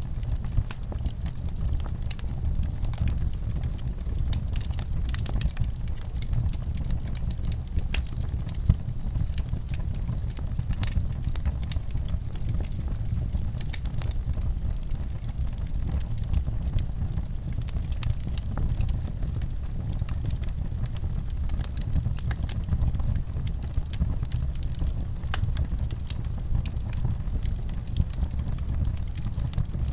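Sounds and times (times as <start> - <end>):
fire crackling: 0.0 - 29.9.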